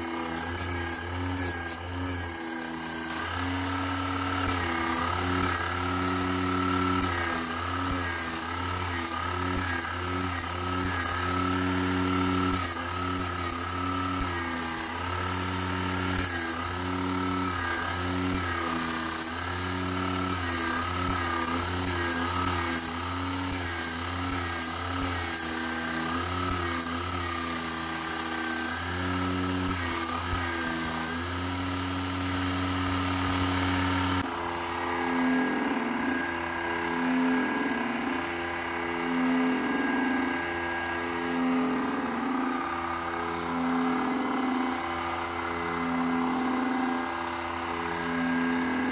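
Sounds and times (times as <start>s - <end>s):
generator hum and whine: 0.0s - 48.9s.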